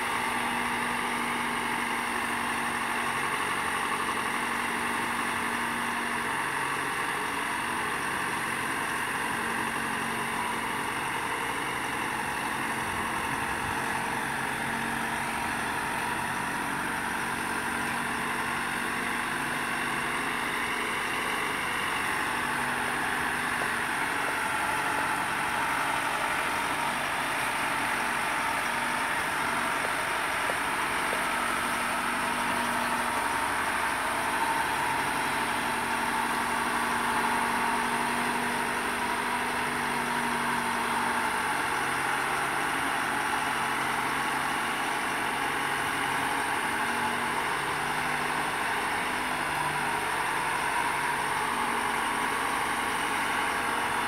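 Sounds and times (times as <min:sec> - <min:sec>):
engine humming: 0:00.0 - 0:54.0.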